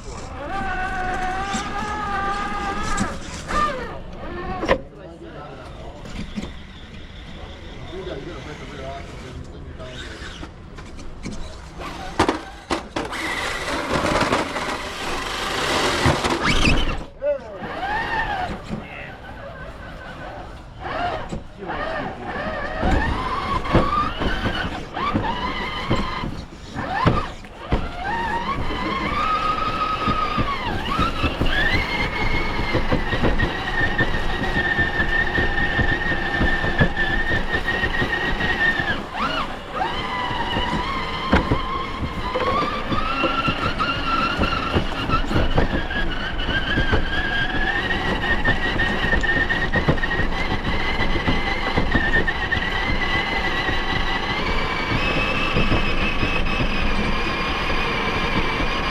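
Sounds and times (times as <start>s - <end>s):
electric motor whining: 0.0s - 58.9s.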